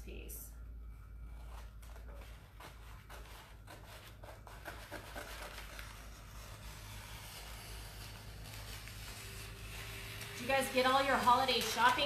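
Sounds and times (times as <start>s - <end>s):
paper sheet rustling: 1.6s - 12.0s.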